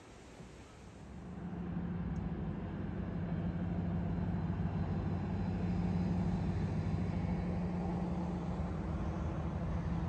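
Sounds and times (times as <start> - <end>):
low engine drone: 1.0 - 10.0.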